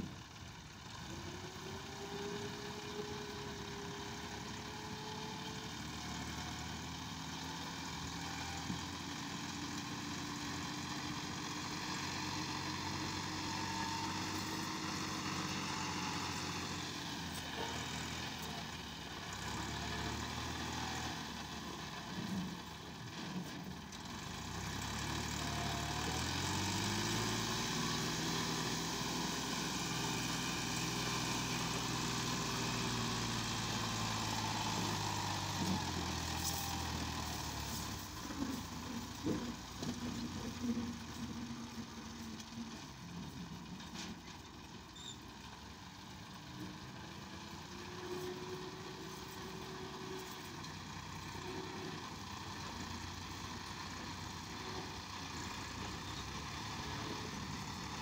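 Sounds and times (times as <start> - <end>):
tractor engine under heavy load: 0.0 - 58.0.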